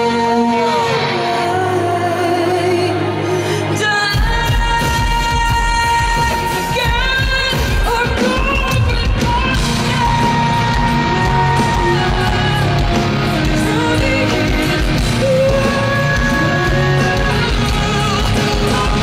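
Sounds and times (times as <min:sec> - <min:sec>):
electric guitar: 0:00.0 - 0:19.0
live rock band playing: 0:00.0 - 0:19.0
woman singing high lead vocal: 0:00.0 - 0:19.0.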